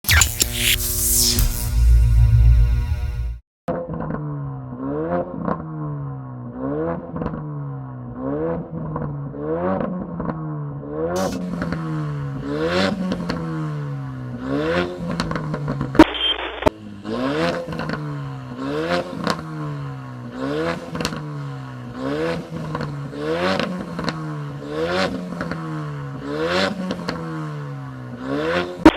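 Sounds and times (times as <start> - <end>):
car engine revving: 4.7 - 16.0, 16.8 - 28.9.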